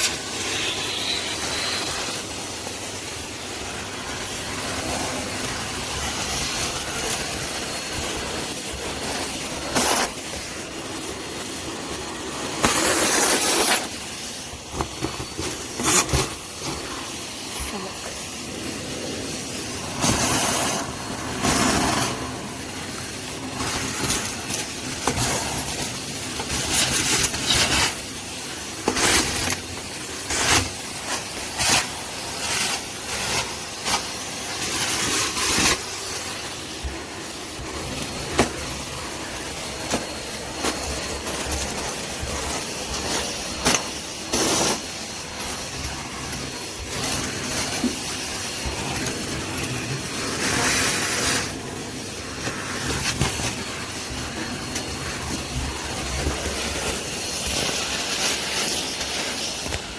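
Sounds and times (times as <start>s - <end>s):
grit crackling in hose: 0.0s - 59.9s
vacuum cleaner running: 0.0s - 59.9s.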